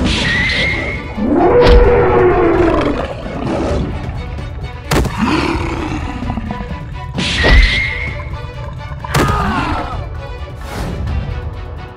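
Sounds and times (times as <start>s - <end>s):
background music: 0.0s - 11.9s.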